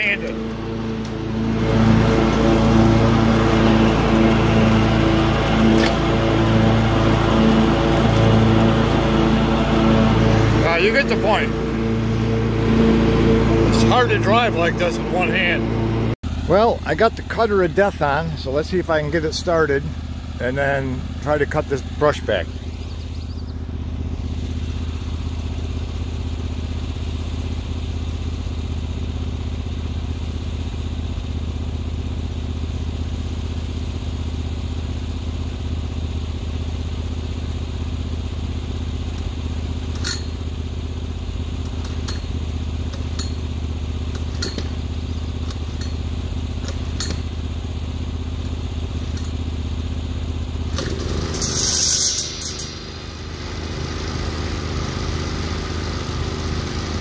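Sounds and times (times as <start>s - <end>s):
mower engine idling: 0.0s - 57.0s.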